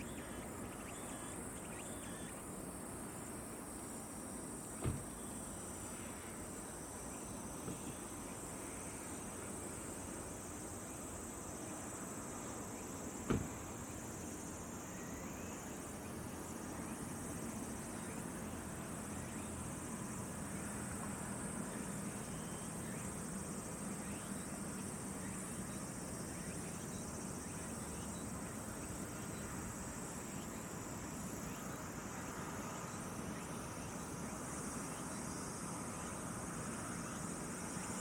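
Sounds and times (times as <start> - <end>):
background hiss: 0.0 - 38.0
insects chirping chorus: 0.0 - 38.0.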